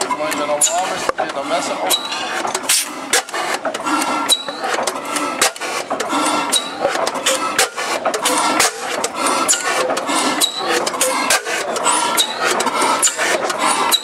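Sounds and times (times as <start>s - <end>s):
gas engine valve gear clattering: 0.0s - 14.0s.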